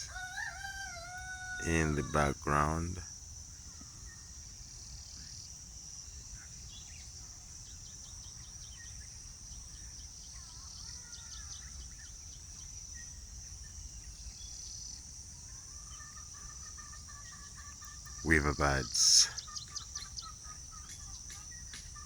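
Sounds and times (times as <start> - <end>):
crickets trilling: 0.0 - 22.0
faint bird chirps: 3.6 - 22.0.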